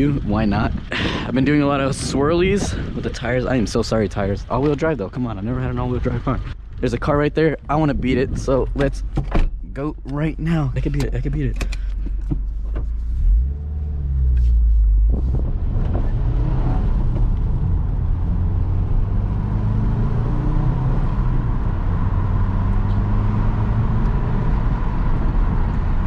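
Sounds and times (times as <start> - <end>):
car engine accelerating: 0.0 - 26.0
road noise: 0.0 - 26.0.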